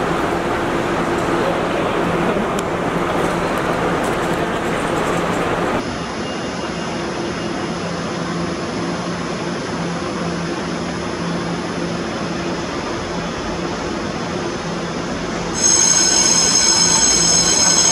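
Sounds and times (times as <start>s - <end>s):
electric train equipment humming: 0.0s - 17.9s.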